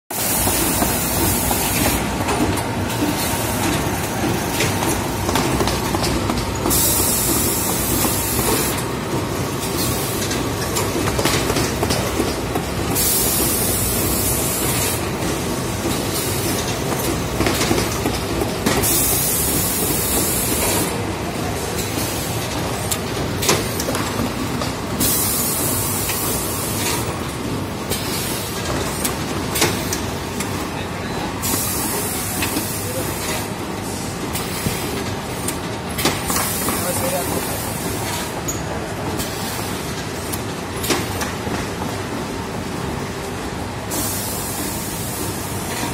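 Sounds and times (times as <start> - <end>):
machine mechanical clatter: 0.2 - 30.8, 34.2 - 42.3.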